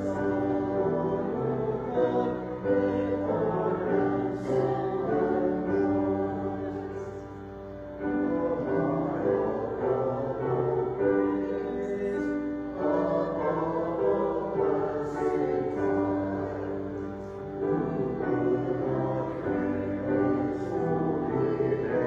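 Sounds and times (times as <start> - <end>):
group singing a hymn: 0.0 - 22.0.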